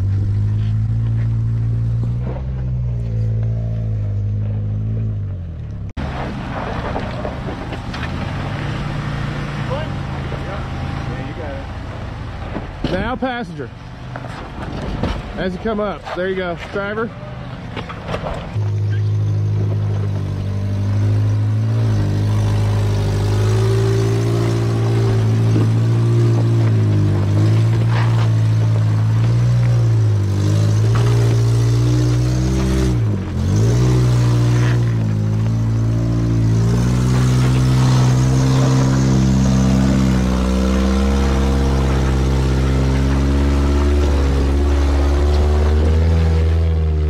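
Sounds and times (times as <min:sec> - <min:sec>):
engine running at low revs: 0:00.0 - 0:47.0
rougher higher engine sound: 0:00.0 - 0:47.0.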